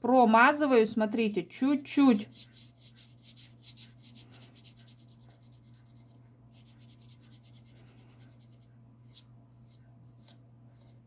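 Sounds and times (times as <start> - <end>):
bristle brush scratching paper: 2.1 - 11.0.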